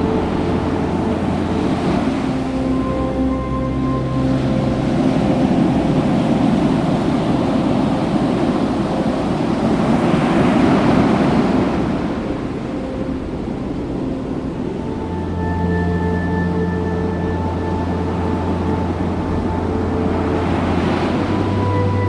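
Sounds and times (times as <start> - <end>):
ocean surf washing onto beach: 0.0 - 15.4, 17.5 - 22.0.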